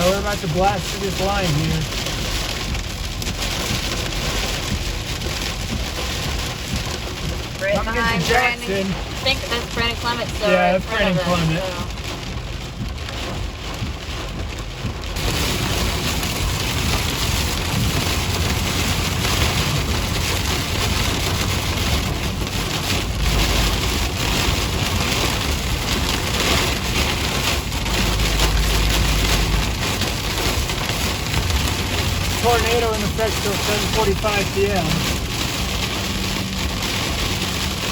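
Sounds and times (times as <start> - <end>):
heavy rain drumming on car: 0.0 - 37.9
low road rumble: 0.0 - 37.9.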